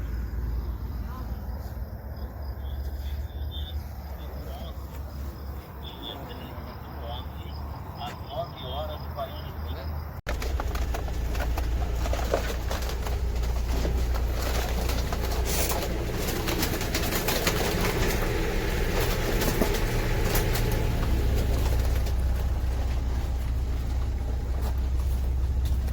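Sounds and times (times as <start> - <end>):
birds calling: 0.0 - 25.9
steady low rumble: 0.0 - 25.9.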